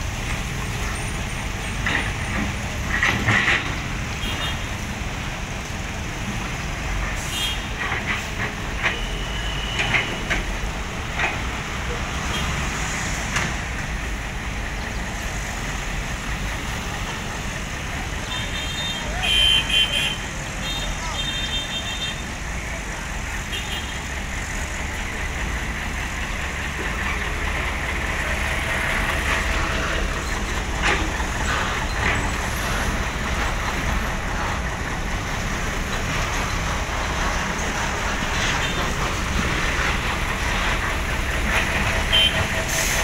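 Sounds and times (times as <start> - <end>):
heavy diesel engines running: 0.0 - 43.0
road traffic passing: 0.0 - 43.0.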